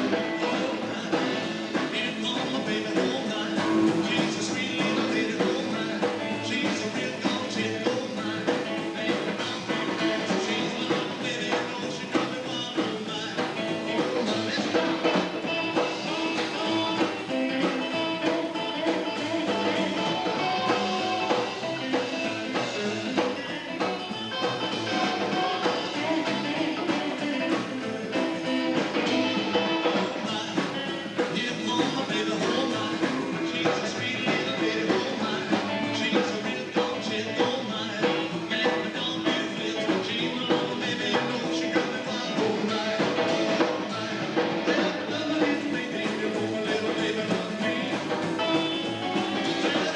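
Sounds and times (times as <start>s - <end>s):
rock and roll band song: 0.0s - 49.9s.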